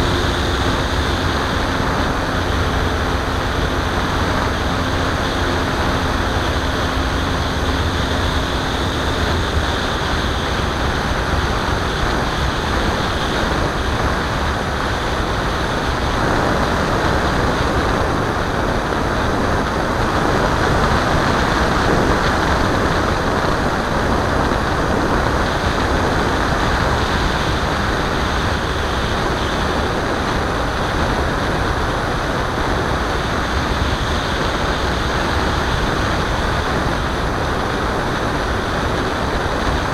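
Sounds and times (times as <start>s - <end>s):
airflow rushing over camera: 0.0s - 39.9s.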